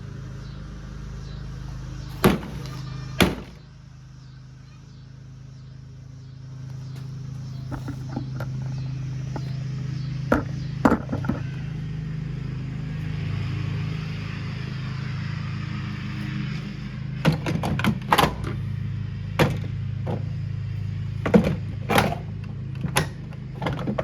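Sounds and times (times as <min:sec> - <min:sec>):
electric motor hum: 0:00.0 - 0:24.0.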